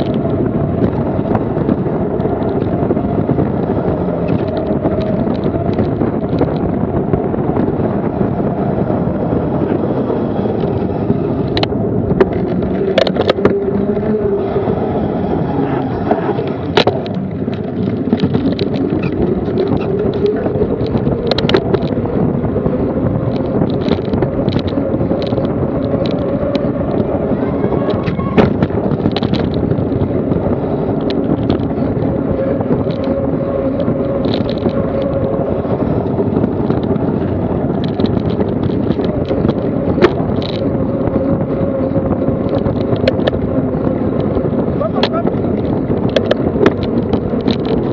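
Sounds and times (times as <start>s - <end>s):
bike rattling and knocking: 0.0s - 47.9s
tyre and road noise: 0.0s - 47.9s
wind rushing over microphone: 0.0s - 47.9s.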